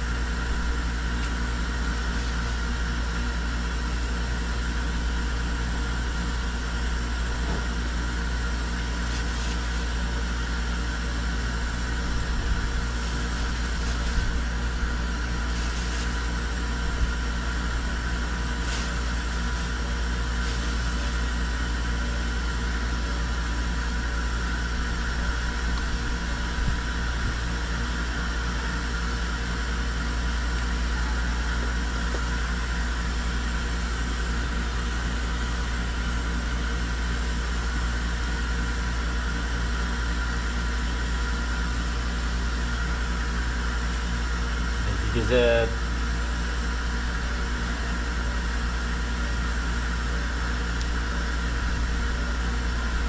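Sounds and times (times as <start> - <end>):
machine hum: 0.0 - 39.4, 40.8 - 53.0.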